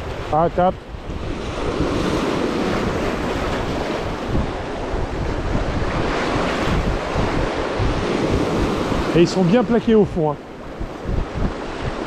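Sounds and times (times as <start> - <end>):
surf on rocky shore: 0.0 - 12.0
wind rumbling on microphone: 0.0 - 12.0.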